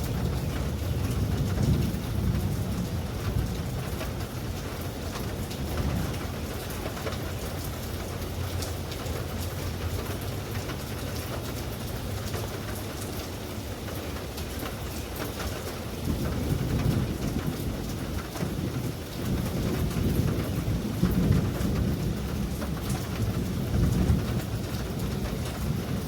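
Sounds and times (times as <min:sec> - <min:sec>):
low thunder rumble: 0:00.0 - 0:13.0, 0:14.0 - 0:26.0
rain pattering: 0:00.0 - 0:26.0.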